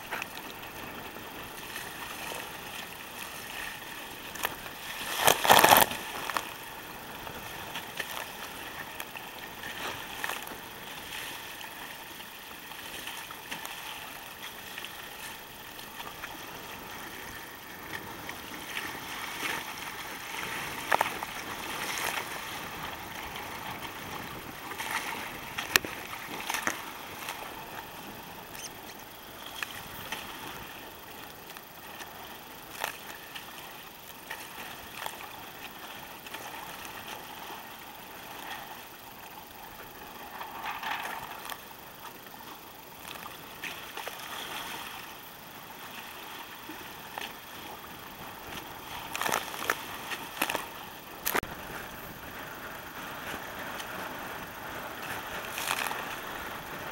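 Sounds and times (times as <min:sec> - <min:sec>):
water splashing against kayak: 0:00.0 - 0:56.9.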